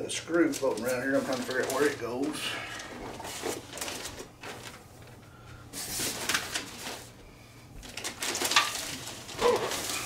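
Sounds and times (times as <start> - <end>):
packing material rustling: 0.1 - 5.1, 5.7 - 7.2, 7.8 - 10.0.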